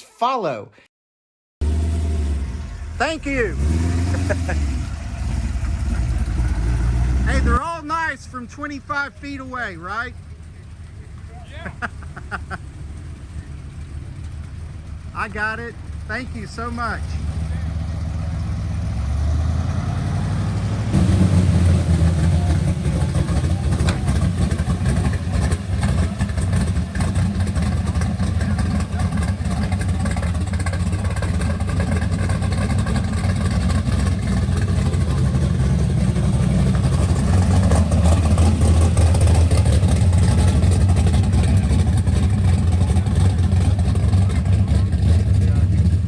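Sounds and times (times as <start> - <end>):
car engine running: 1.6 - 46.0.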